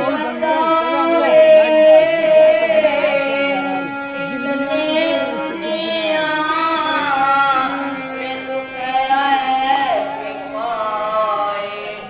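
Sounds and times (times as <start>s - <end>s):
held accompanying notes: 0.0s - 12.0s
person singing a slow lament: 0.0s - 12.0s.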